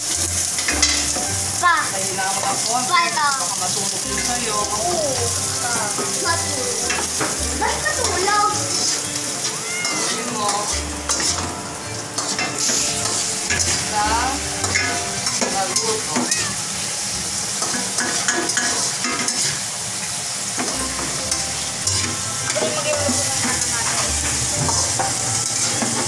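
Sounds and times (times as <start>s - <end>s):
spatulas scraping and knocking pans: 0.0s - 2.8s, 3.8s - 19.8s, 20.6s - 26.0s
food sizzling in woks: 0.0s - 26.0s.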